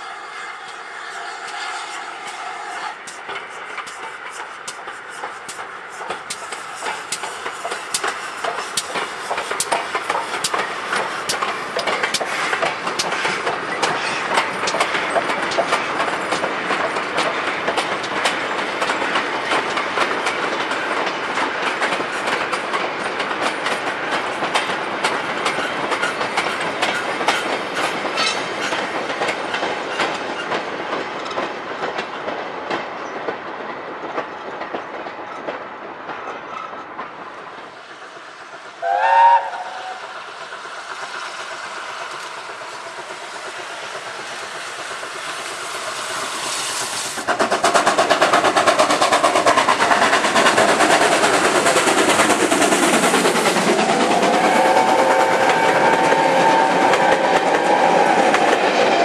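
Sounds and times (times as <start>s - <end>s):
train wheels clicking over rail joints: 0.2s - 59.0s.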